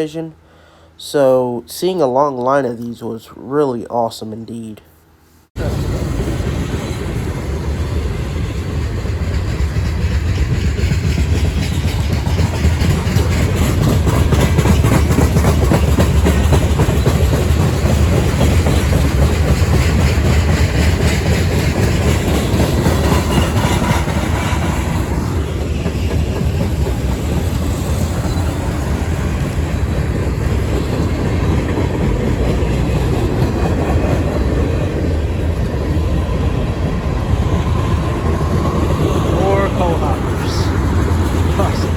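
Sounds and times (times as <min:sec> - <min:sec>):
freight train rumbling past: 0:05.6 - 0:41.9
wheels clacking over rail joints: 0:05.6 - 0:41.9.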